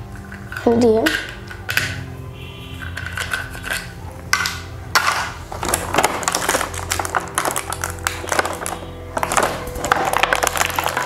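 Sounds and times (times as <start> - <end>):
plastic toy parts clicking and rattling: 0.0 - 2.0, 2.8 - 11.0.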